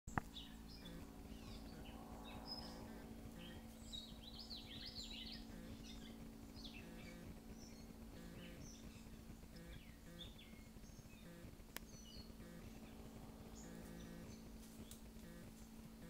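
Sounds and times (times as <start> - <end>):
songbirds chirping and whistling: 0.1 - 16.0
steady low hum: 0.1 - 16.0.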